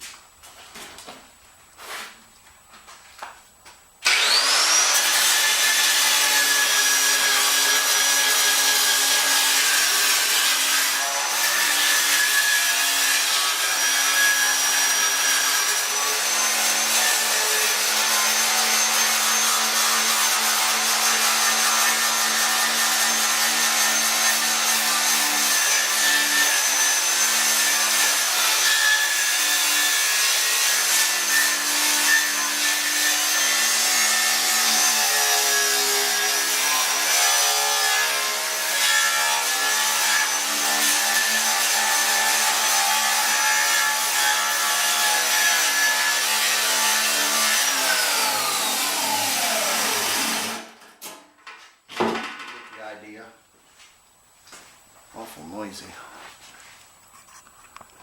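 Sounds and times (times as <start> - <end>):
angle grinder grinding steel: 4.0 - 50.8.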